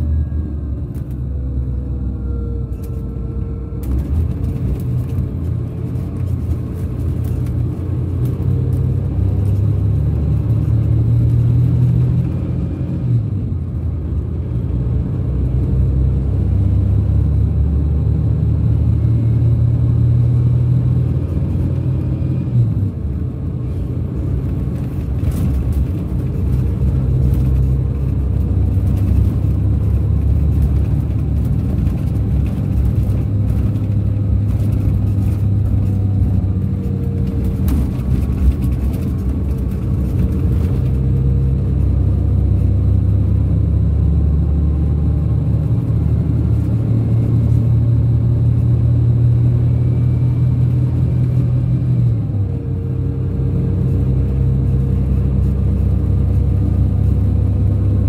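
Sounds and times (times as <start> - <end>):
coach diesel engine drone: 0.0 - 58.0.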